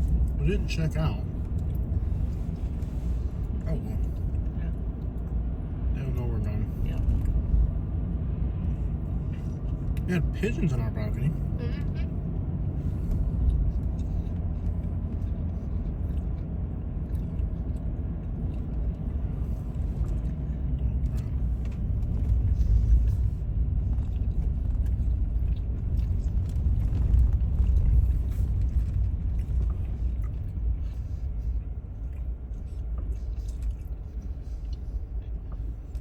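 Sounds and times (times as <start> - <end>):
car road rumble from inside: 0.0 - 36.0.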